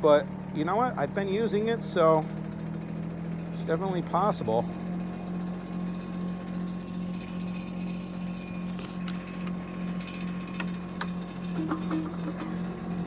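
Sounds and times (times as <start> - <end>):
mini excavator engine running: 0.0 - 13.0.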